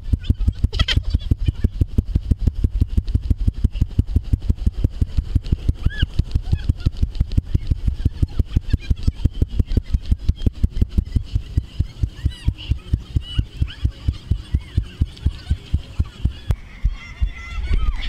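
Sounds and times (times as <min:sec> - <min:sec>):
engine idling: 0:00.0 - 0:16.7.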